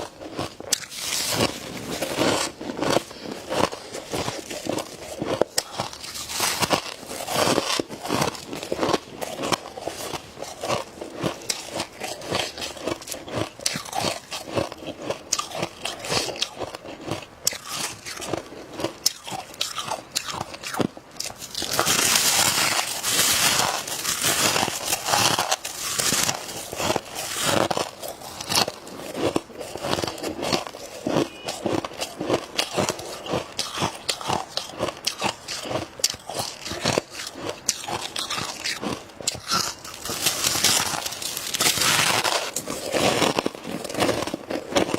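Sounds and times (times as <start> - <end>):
person chewing crunchy frost: 0.0 - 44.9.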